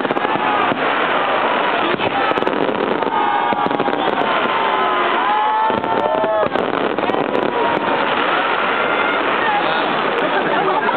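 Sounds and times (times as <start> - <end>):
firework whistles: 0.0 - 10.4
fireworks crackling: 0.0 - 10.9.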